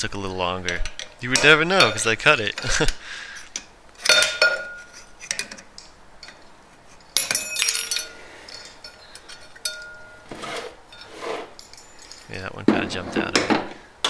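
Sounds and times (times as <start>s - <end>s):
screwdrivers clinking on metal: 0.6s - 12.5s.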